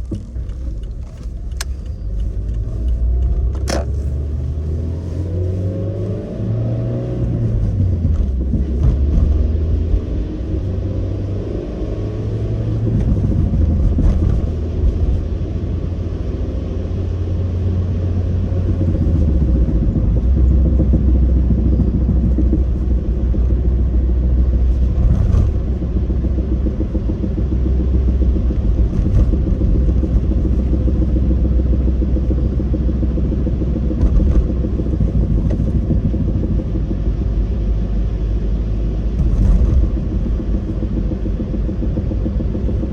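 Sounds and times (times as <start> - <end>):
engine and road noise rumble: 0.0 - 42.9.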